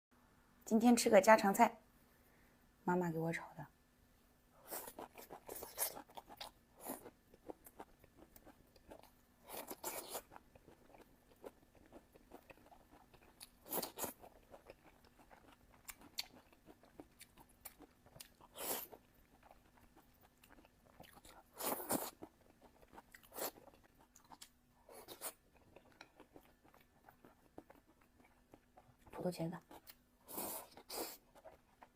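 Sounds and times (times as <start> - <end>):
chewing and biting food: 4.6 - 31.9.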